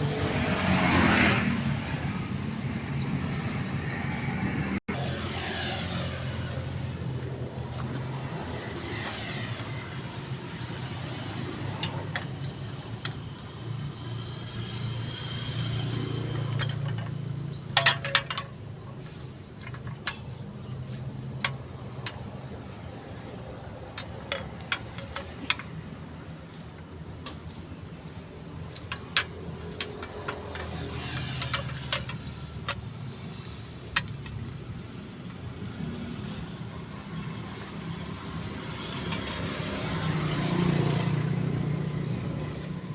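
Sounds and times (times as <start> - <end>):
sharp clicks and knocks: 5.9 - 42.9.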